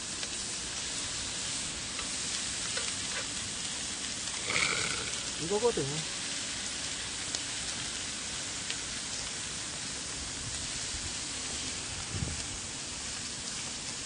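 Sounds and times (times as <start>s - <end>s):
food sizzling on grill plate: 0.0s - 14.0s.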